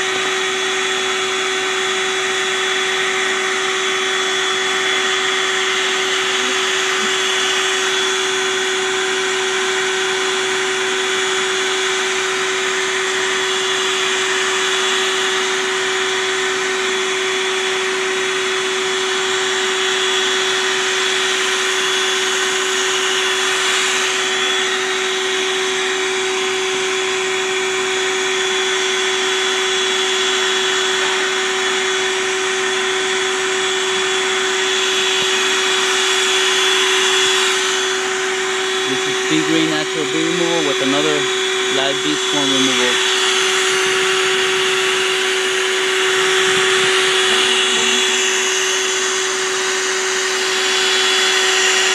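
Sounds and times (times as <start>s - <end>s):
vacuum motor humming: 0.0s - 51.9s.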